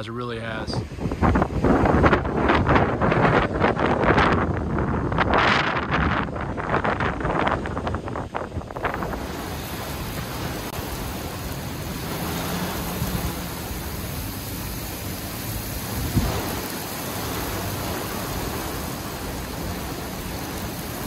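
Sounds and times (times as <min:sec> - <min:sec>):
heavy rain: 0:00.0 - 0:21.0
wind: 0:00.0 - 0:21.0.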